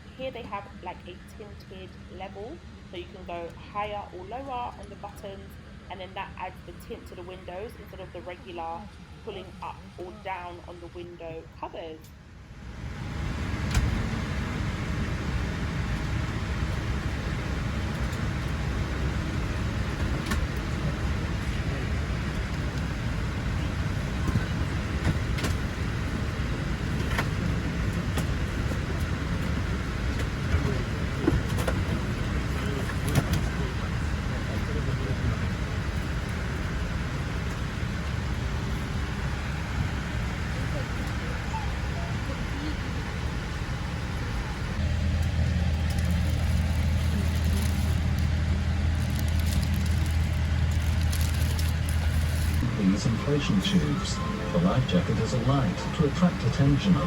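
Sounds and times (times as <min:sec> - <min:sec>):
airliner cabin rumble: 0:06.0 - 0:57.0.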